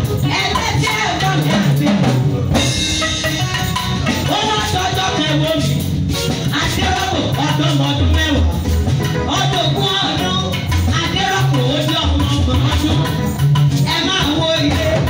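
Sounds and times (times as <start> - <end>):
woman singing into microphone: 0.0 - 2.6, 4.2 - 5.8, 6.4 - 8.5, 9.2 - 15.0
band playing: 0.0 - 15.0.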